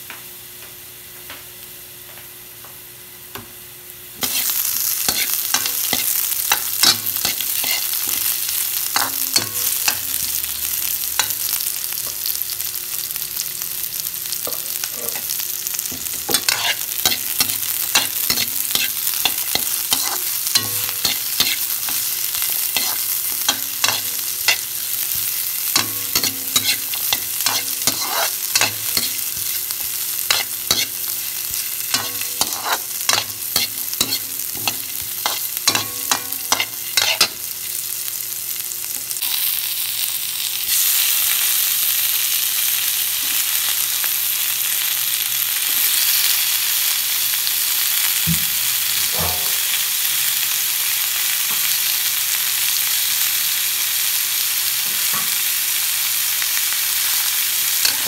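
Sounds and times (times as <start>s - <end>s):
onion sizzling in a pan: 2.8s - 58.0s.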